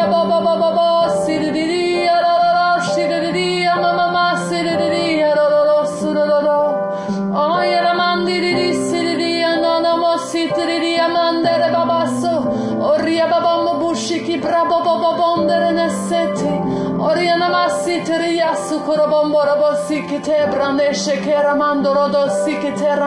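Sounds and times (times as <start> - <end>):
person singing wordless melody: 0.0 - 23.0
piano slow chords: 0.0 - 23.0.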